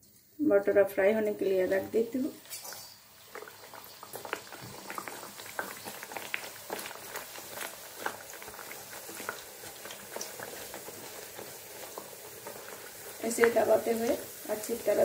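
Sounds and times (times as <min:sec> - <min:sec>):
hot oil sizzling and popping: 0:01.1 - 0:15.0.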